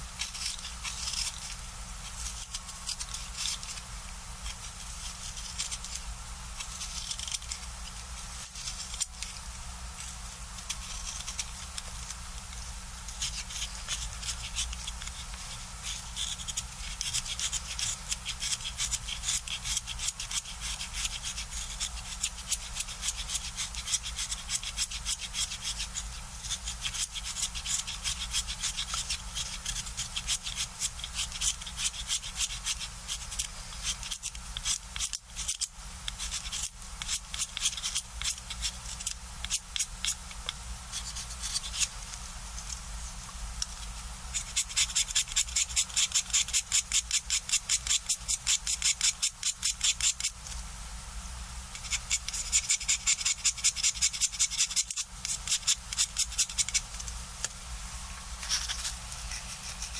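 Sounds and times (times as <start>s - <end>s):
knife scraping pencil wood: 0.2s - 9.4s, 10.0s - 12.2s, 13.1s - 41.9s, 44.3s - 50.4s, 51.7s - 57.0s, 58.4s - 59.9s.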